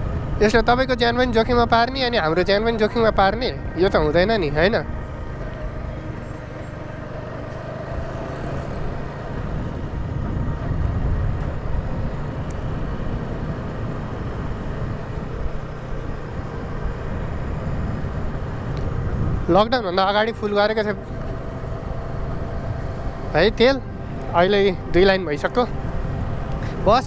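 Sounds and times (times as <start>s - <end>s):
motorcycle engine running: 0.0s - 27.0s
road noise: 0.0s - 27.0s.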